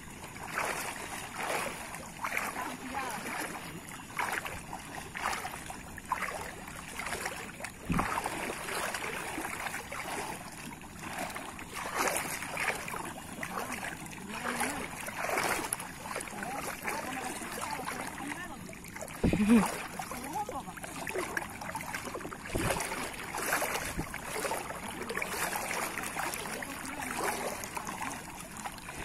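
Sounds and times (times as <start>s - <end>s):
water sloshing around legs: 0.0s - 29.0s.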